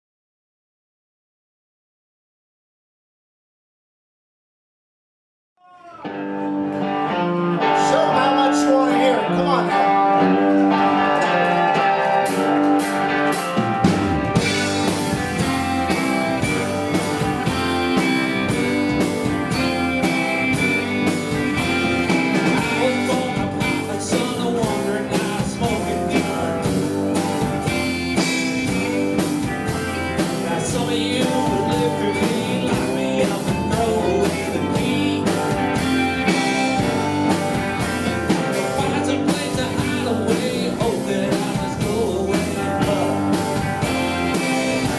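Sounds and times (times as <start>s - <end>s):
live rock band playing: 6.0s - 44.9s.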